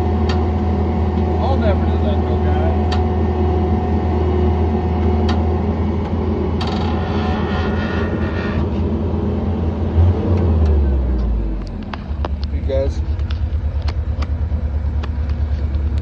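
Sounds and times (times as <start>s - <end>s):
loader engine rumbling: 0.0s - 16.0s.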